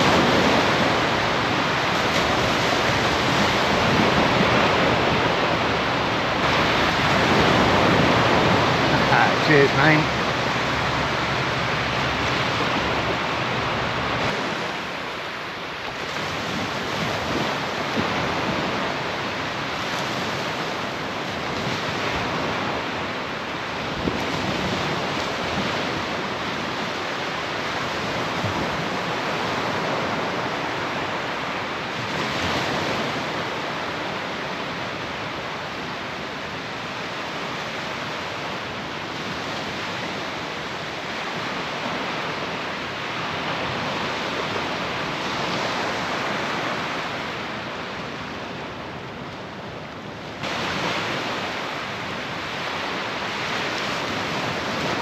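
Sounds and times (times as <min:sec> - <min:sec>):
surf breaking on sand: 0:00.0 - 0:55.0
wind on microphone: 0:00.0 - 0:55.0.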